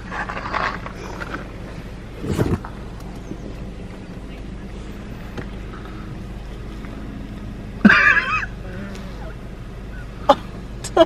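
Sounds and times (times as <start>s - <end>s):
car running inside cabin: 0.1s - 11.0s.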